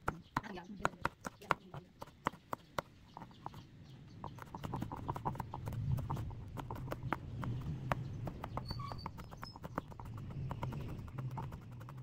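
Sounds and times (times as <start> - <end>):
knife chopping on plastic board: 0.0 - 3.6, 4.2 - 12.0.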